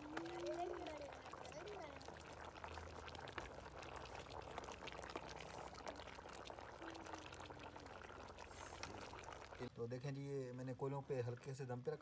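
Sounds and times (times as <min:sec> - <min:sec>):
pot bubbling and popping: 0:00.0 - 0:12.0.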